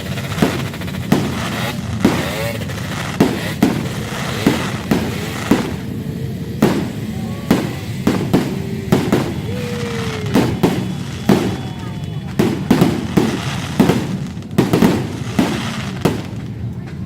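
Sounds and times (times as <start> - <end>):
crowd background noise: 0.0 - 17.0
fireworks bangs: 0.0 - 17.0.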